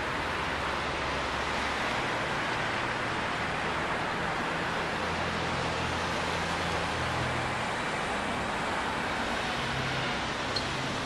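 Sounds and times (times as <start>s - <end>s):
traffic rush: 0.0s - 11.0s.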